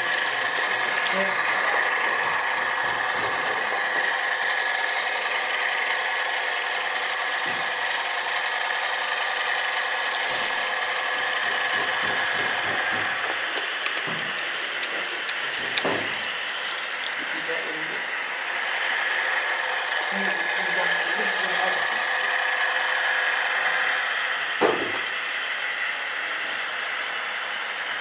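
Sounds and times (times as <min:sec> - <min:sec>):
wheels rattling and clicking: 0:00.0 - 0:22.9
model train whirring: 0:00.0 - 0:28.0.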